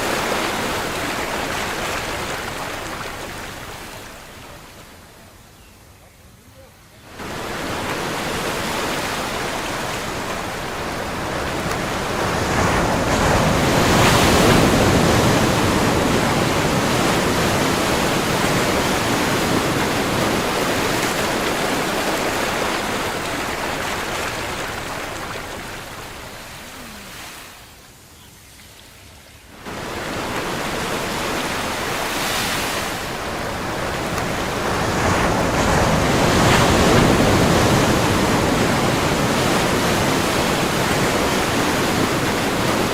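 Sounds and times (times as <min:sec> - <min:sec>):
ocean waves breaking: 0:00.0 - 0:05.2, 0:07.1 - 0:27.8, 0:29.6 - 0:42.9.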